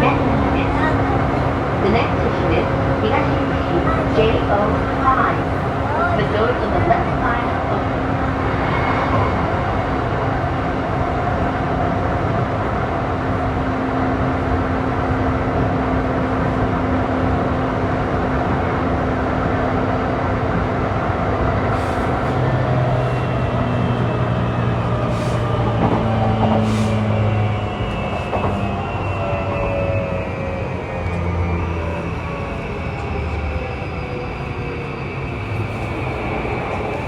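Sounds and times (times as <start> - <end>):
train wheel and rail rumble: 0.0 - 37.0.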